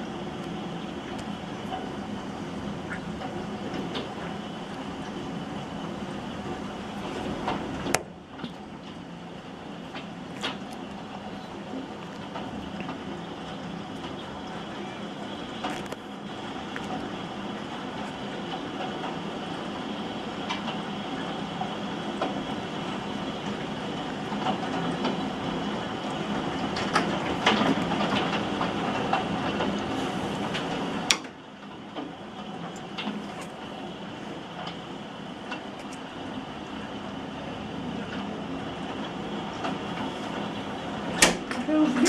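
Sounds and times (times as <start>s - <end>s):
heavy rain downpour: 0.0s - 42.0s.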